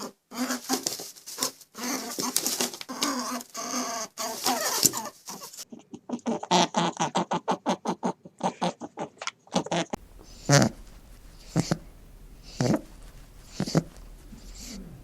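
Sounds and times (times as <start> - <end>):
rabbit making short sounds: 0.0 - 8.8, 9.6 - 15.0.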